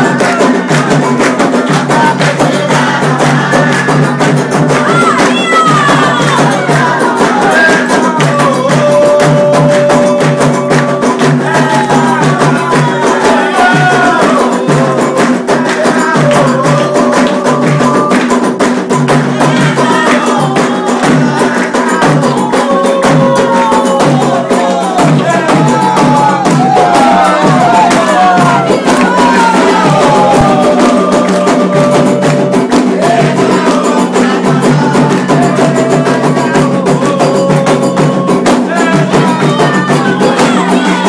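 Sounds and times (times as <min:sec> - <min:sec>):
fast drum and percussion: 0:00.0 - 0:41.0
voices singing a chant: 0:00.0 - 0:41.0.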